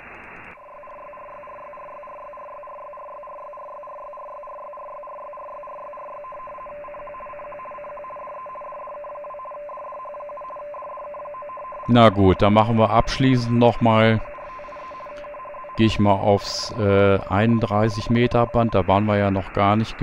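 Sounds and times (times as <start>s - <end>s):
radio band noise hiss: 0.0s - 20.0s
weather fax keyed tones: 0.0s - 20.0s.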